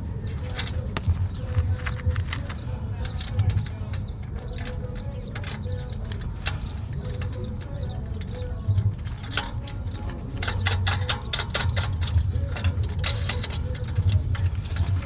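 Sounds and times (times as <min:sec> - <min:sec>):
steady low hum: 0:00.0 - 0:15.0
ratchet wrench clicking: 0:00.5 - 0:15.0.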